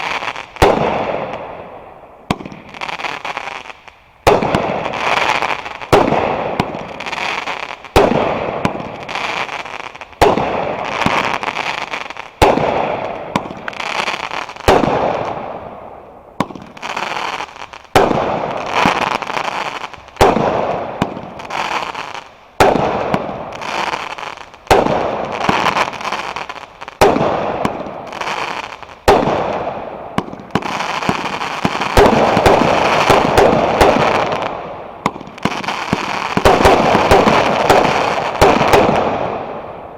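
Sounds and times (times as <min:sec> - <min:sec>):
fireworks banging: 0:00.0 - 0:01.7, 0:02.3 - 0:15.7, 0:16.4 - 0:39.9
fireworks crackling: 0:00.0 - 0:39.9.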